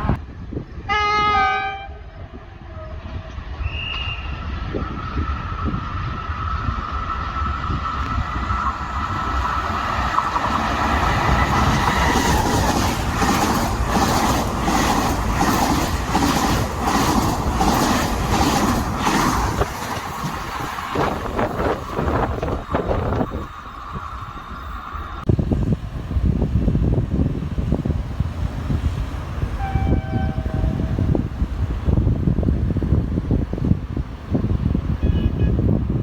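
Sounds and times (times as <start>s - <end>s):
train rumble with faint whine: 0.0s - 36.0s.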